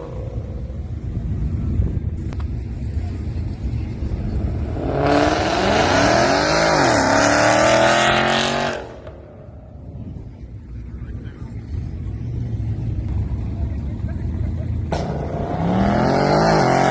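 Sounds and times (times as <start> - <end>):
car engine at full throttle: 0.0 - 16.9.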